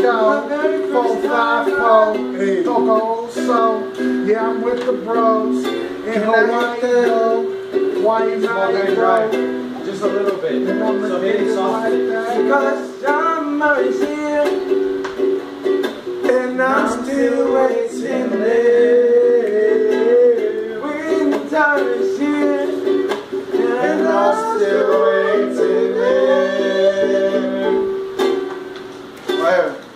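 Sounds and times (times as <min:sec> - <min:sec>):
man singing: 0:00.0 - 0:14.8, 0:16.2 - 0:28.0
ukulele strumming chords: 0:00.0 - 0:29.9.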